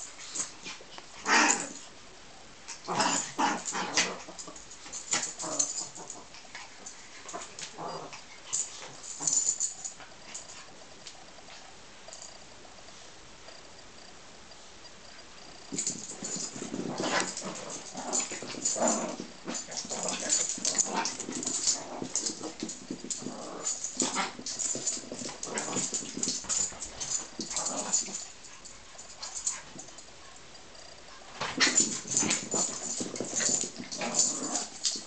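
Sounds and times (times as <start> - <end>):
small dogs growling and yipping: 0.1 - 1.9, 2.7 - 10.8, 15.5 - 30.0, 30.7 - 35.0.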